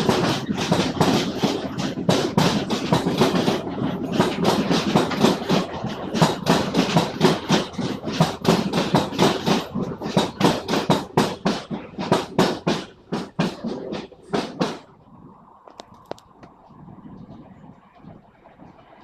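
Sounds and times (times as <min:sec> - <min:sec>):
train wheels clattering on track: 0:00.0 - 0:19.0.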